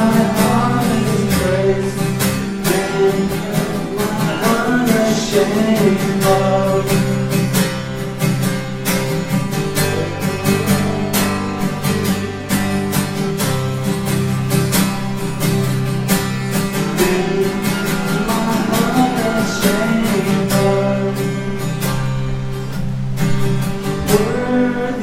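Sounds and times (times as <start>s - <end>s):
band playing: 0.0s - 25.0s
strummed acoustic guitar: 0.0s - 25.0s.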